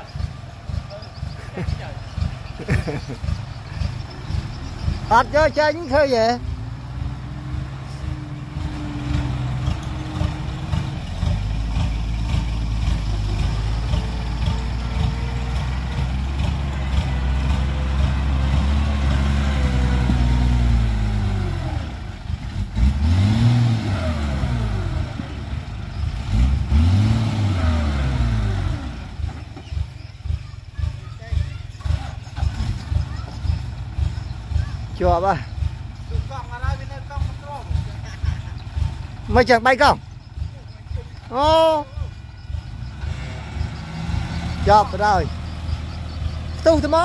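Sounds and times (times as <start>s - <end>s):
truck engine revving: 0.0s - 47.0s.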